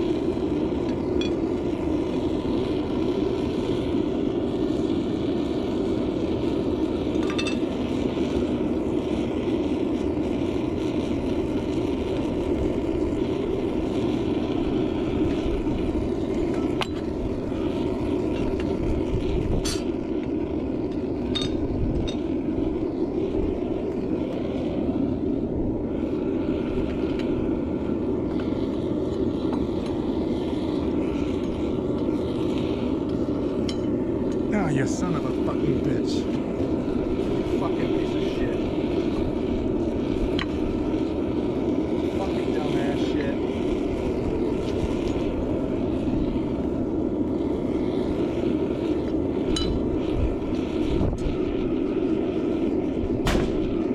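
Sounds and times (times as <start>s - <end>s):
furnace burner rushing: 0.0s - 53.9s.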